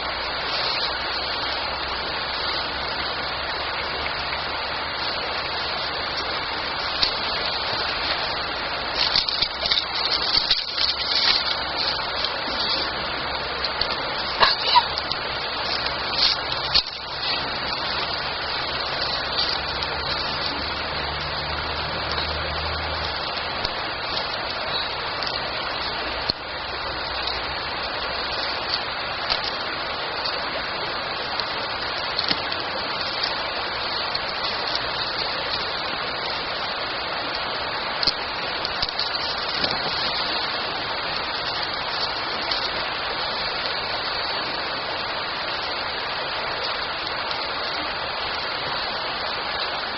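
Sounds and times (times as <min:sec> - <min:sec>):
campfire crackling and hissing: 0:00.0 - 0:49.9.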